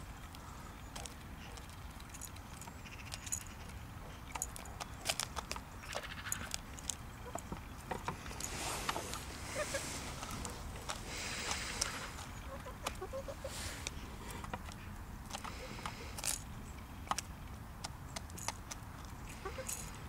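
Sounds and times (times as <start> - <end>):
beaks tapping grain and plastic: 0.2 - 19.9.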